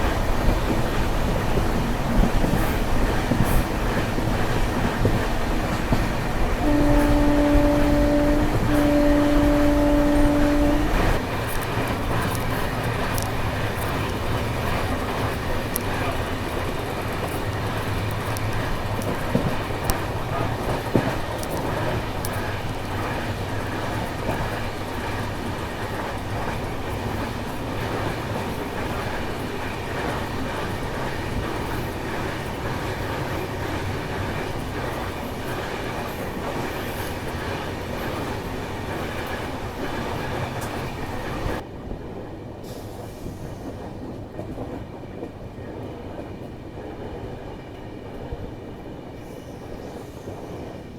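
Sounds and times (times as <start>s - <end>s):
train rumbling on rails: 0.0s - 50.9s.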